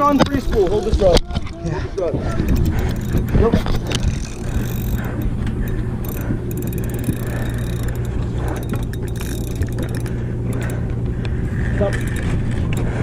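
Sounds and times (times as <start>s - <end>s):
boat engine humming: 2.2s - 13.0s
fishing tackle clicking and rattling: 2.3s - 13.0s.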